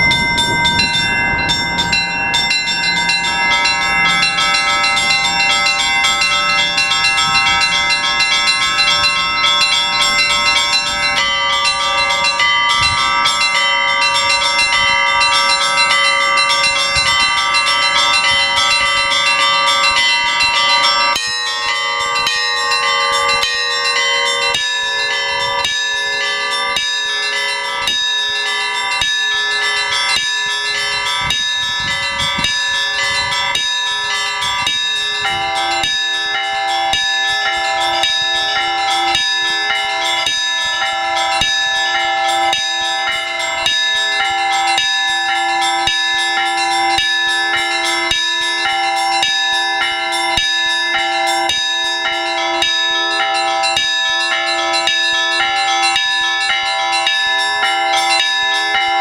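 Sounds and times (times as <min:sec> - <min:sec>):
church bells pealing: 0:00.0 - 0:59.0
deep bell tolling: 0:00.0 - 0:59.0.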